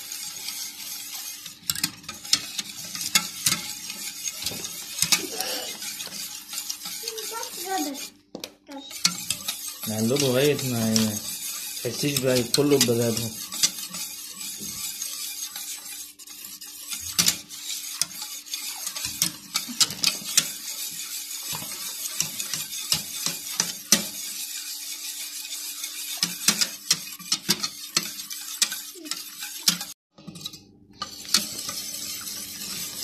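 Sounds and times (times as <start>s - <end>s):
whisk clinking on metal pot: 0.0s - 33.0s.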